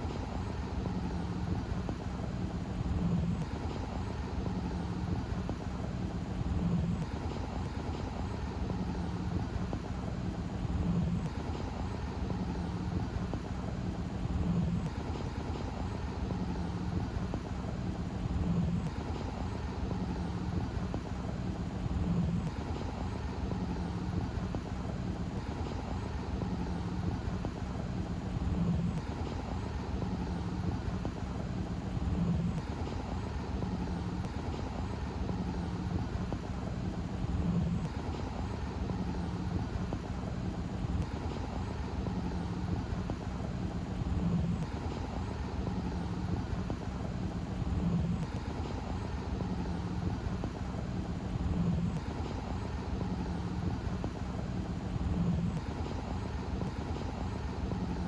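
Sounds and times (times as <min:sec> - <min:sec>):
mechanical drone with low hum: 0:00.0 - 0:58.0.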